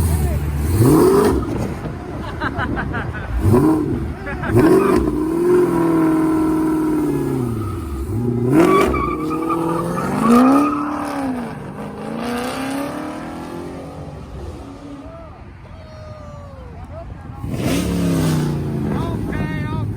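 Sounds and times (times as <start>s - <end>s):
car engine revving: 0.0s - 15.6s, 17.3s - 19.9s.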